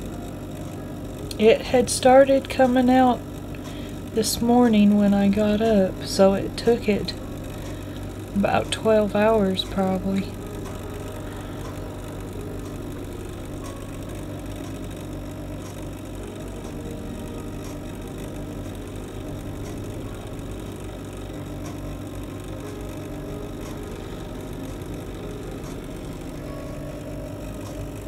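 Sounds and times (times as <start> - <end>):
computer fan humming: 0.0 - 28.0.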